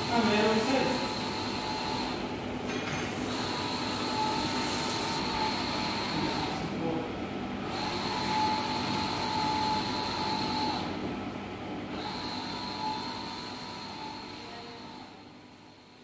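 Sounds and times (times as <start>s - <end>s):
fan and machine noise: 0.0s - 16.0s
printer motor whine: 0.0s - 16.0s.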